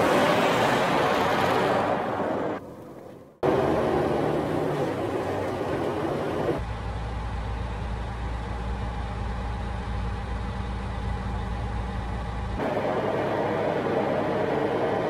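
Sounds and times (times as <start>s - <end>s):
diesel truck engine drone: 0.0s - 15.0s
truck cab road noise: 0.0s - 15.0s.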